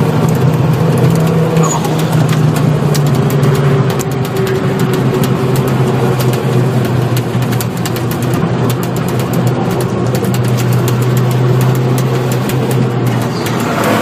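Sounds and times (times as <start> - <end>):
car engine droning at steady revs: 0.0 - 14.0.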